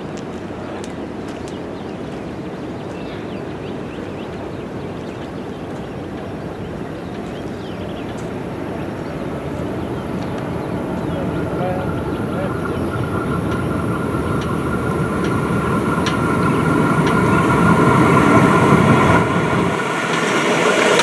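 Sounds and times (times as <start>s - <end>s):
diesel locomotive engine rumble: 0.0s - 21.0s.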